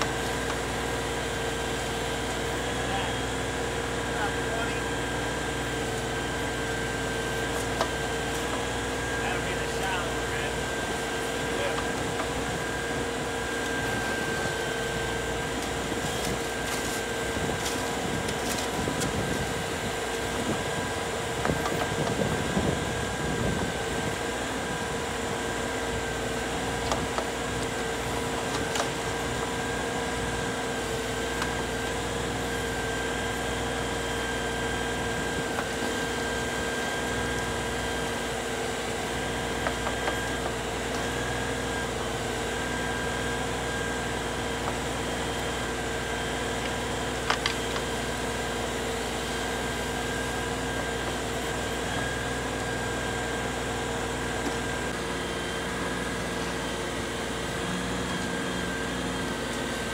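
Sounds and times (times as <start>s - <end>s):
backhoe scraping and clatter: 0.0s - 59.9s
diesel engine running: 0.0s - 59.9s.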